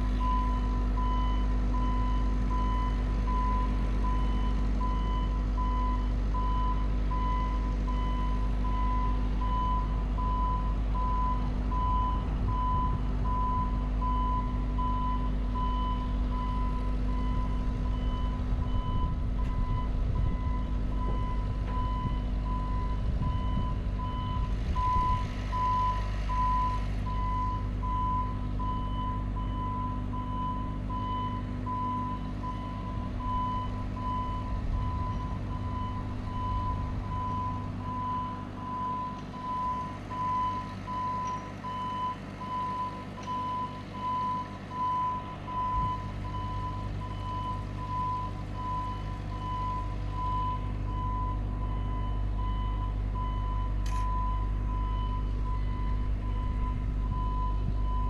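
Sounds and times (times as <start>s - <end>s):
engine and hydraulics drone: 0.0s - 58.0s.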